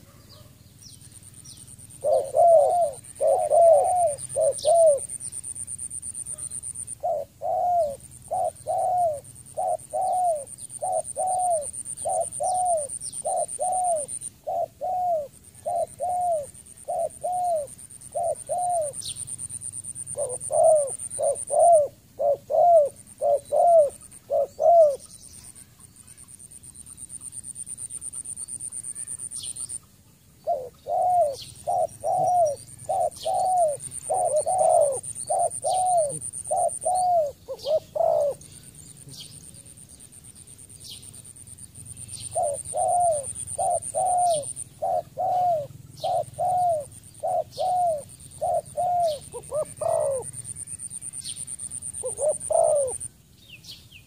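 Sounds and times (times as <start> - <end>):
small birds chirping: 0.0 - 54.0
dove cooing: 1.9 - 25.1, 30.4 - 39.8, 40.8 - 53.1.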